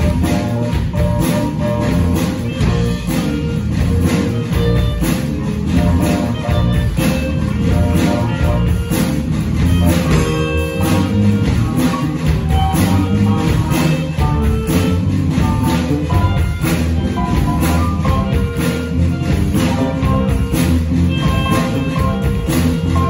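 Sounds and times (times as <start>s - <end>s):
guitar: 0.0s - 23.0s
live band playing funk jazz: 0.0s - 23.0s.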